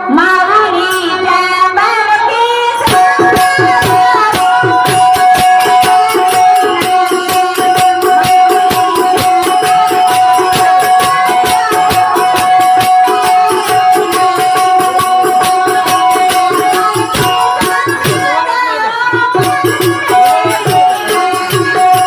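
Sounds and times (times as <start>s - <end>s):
fast percussion beat: 2.8s - 22.0s.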